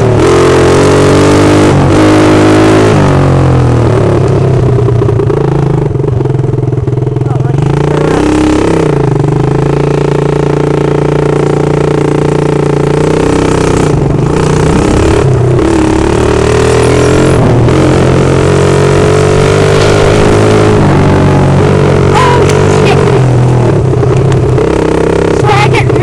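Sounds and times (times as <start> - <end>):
loud unmuffled atv engine: 0.0 - 26.0.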